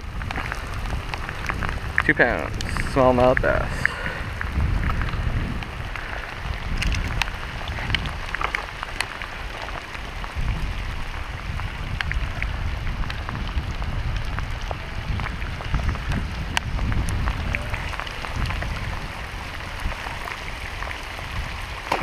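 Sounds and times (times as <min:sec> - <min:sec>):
heavy rain on water: 0:00.0 - 0:22.0.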